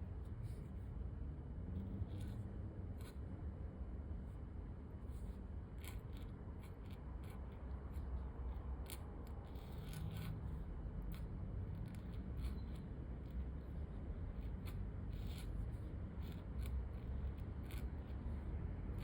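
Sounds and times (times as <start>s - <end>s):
pen nib scraping paper: 1.9s - 3.2s, 5.0s - 19.0s.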